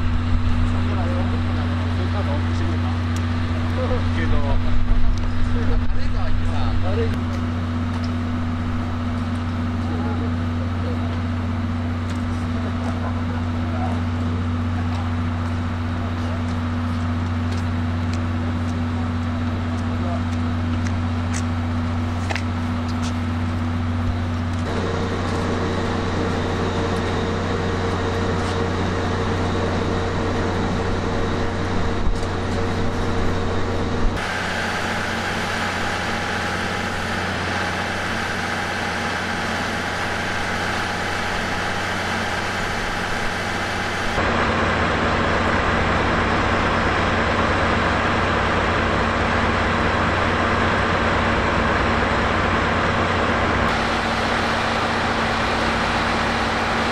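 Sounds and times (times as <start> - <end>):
train rumble and hum: 0.0 - 56.9.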